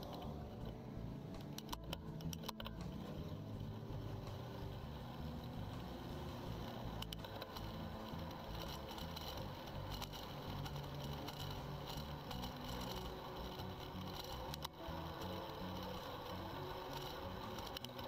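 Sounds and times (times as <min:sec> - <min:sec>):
clicks and rattles: 0:00.0 - 0:18.0
traffic rumble: 0:00.0 - 0:18.0.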